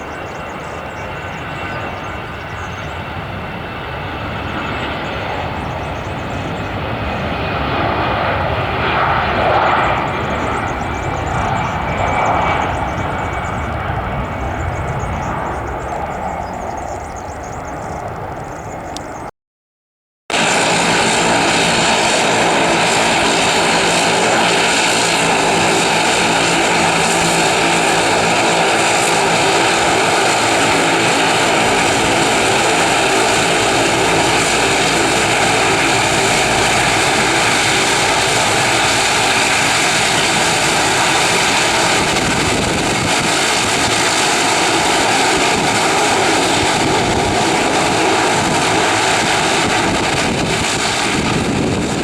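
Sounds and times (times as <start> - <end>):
aircraft engines running: 0.0 - 19.3, 20.3 - 52.0.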